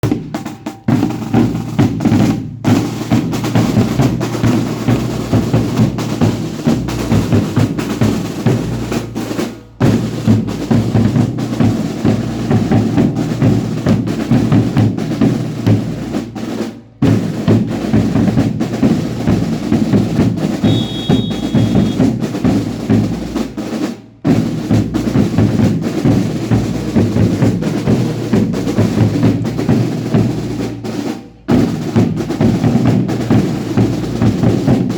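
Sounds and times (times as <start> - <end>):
drums beating fast: 0.0 - 34.9.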